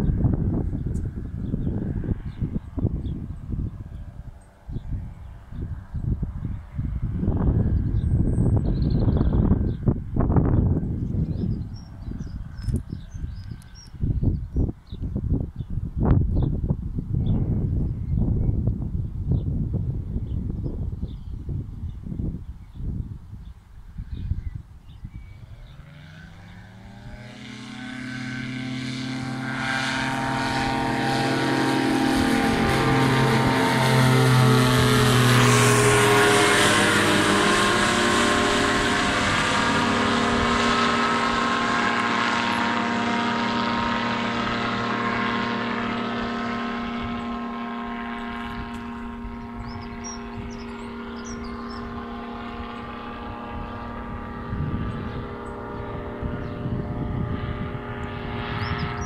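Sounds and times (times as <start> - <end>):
microlight engine and propeller droning: 0.0 - 59.0.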